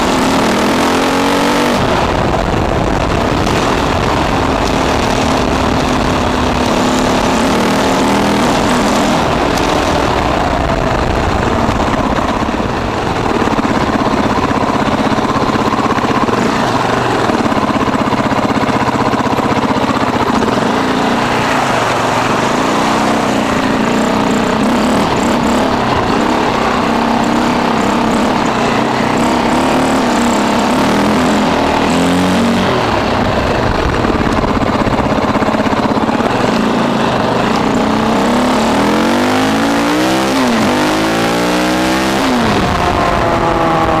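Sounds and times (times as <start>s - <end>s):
dirt bike engine accelerating: 0.0s - 44.0s.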